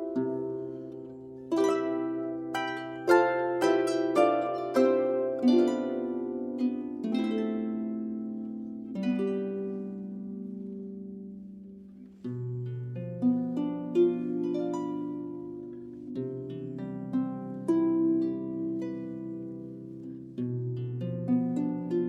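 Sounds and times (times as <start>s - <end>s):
solo harp playing: 0.0s - 22.0s.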